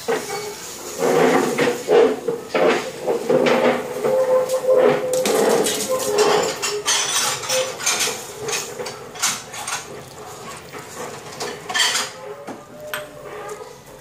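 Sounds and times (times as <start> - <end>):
broth bubbling in a pot: 0.0 - 14.0.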